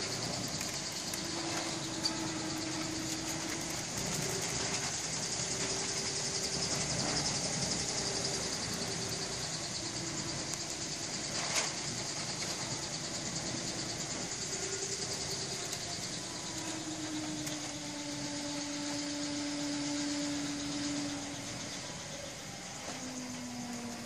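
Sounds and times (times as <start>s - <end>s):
high hiss: 0.0s - 24.0s
machine hum: 0.0s - 24.0s.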